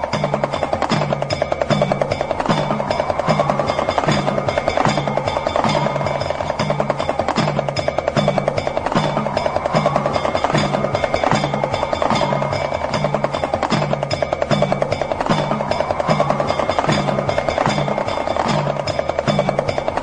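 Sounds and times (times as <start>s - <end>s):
hand drum rattling: 0.0s - 20.0s.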